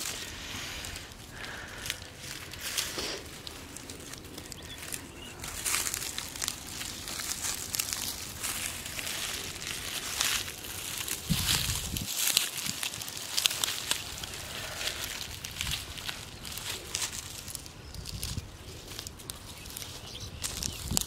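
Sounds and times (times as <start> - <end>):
footsteps crackling on dry straw: 0.0 - 21.0.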